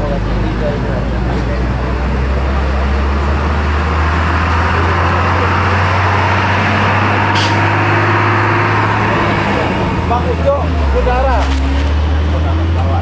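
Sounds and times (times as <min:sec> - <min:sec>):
large vehicle engine running: 0:00.0 - 0:13.0
road and traffic noise: 0:00.0 - 0:13.0.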